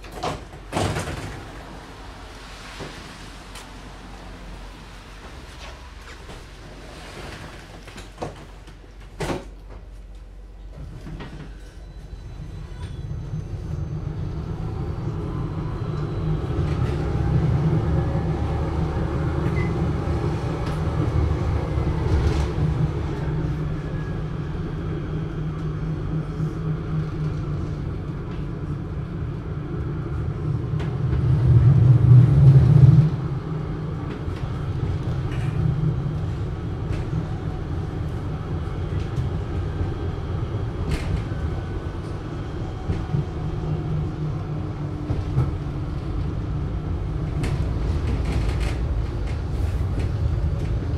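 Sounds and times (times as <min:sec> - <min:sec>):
tram rumbling: 0:00.0 - 0:50.9.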